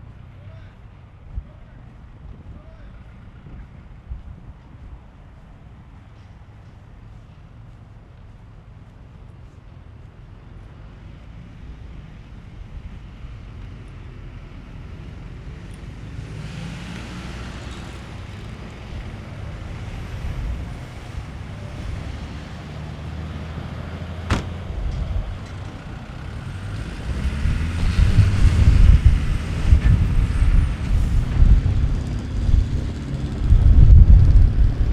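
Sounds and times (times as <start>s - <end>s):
vehicle engine and tyre noise: 0.0s - 34.9s.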